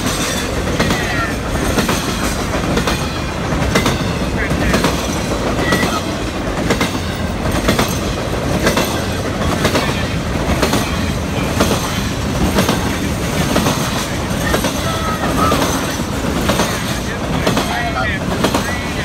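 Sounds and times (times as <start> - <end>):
rail trailers rumbling past: 0.0 - 19.0
wheels clicking over rail joints: 0.0 - 19.0.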